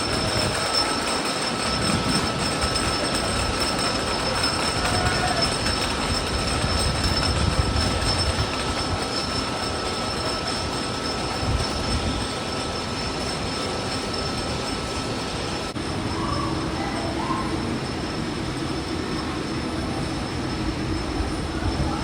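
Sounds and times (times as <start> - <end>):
roller coaster wheels rumbling on rail: 0.0 - 22.0.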